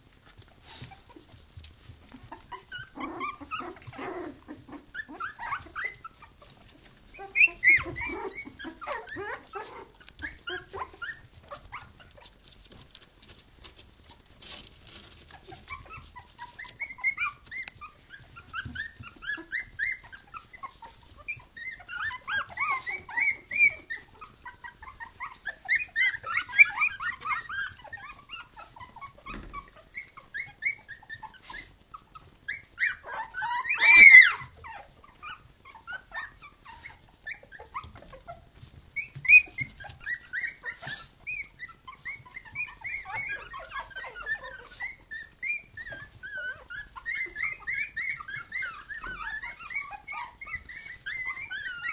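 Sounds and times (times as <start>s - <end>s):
puppies high-pitched calls: 0.0s - 51.9s.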